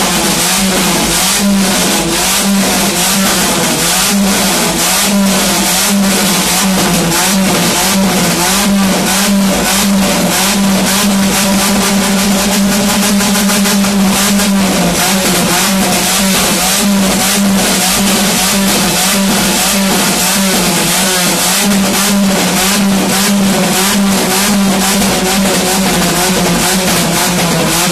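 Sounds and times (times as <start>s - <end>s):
car engine revving high: 0.0s - 27.9s
exhaust backfire pops: 0.0s - 27.9s.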